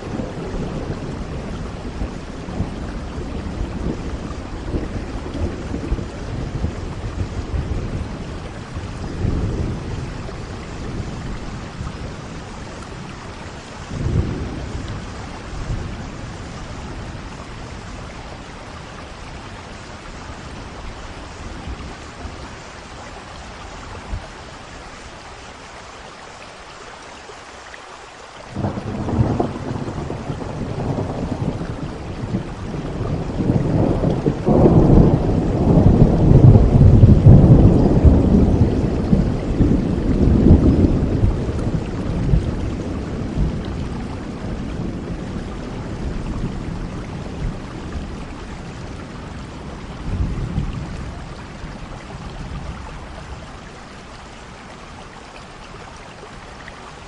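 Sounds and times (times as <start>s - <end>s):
rolling thunder: 0.0s - 22.7s, 28.6s - 53.6s
steady rain: 0.0s - 57.0s.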